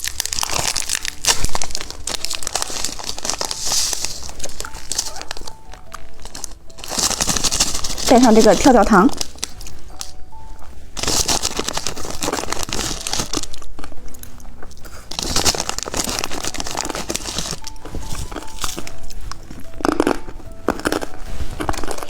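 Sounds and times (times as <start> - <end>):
crinkling snack wrapper: 0.0 - 22.0
faint background music: 0.0 - 22.0
popping candy crackling: 0.0 - 22.0.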